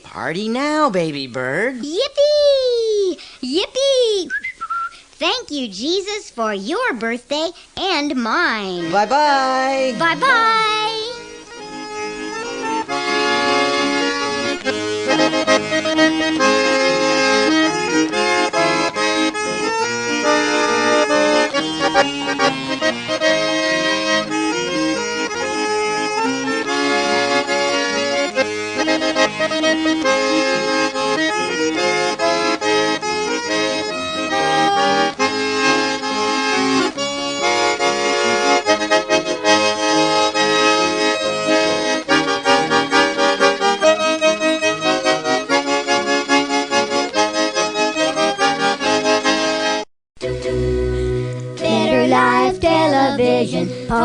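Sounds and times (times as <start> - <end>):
instrumental music: 8.1 - 54.0.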